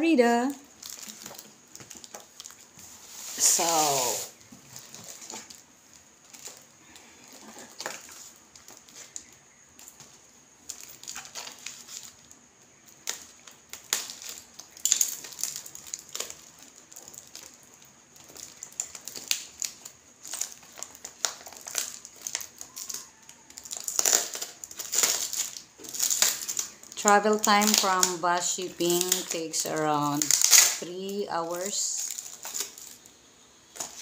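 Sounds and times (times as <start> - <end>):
aluminium foil crinkling: 0.2 - 34.0.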